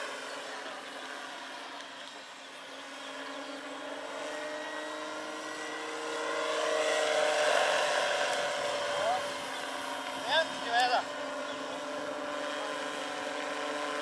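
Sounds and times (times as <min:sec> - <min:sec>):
electric drive whine: 0:00.0 - 0:14.0
helicopter rotor noise: 0:00.0 - 0:14.0.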